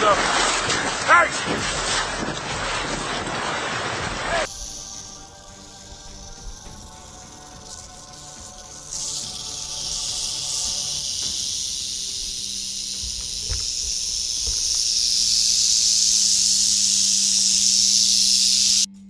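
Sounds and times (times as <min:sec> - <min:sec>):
rattlesnakes rattling: 0:00.0 - 0:18.9.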